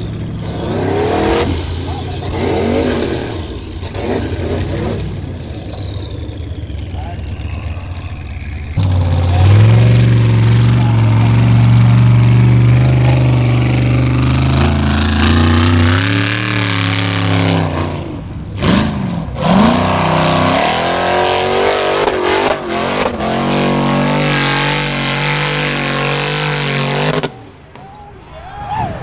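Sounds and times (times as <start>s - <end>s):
buggy engine revving hard: 0.0s - 27.4s.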